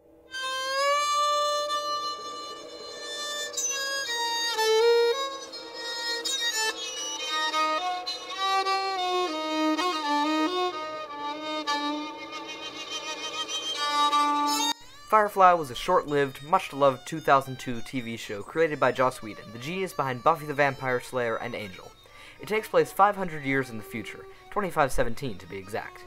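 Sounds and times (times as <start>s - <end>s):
solo fiddle melody: 0.3s - 26.0s.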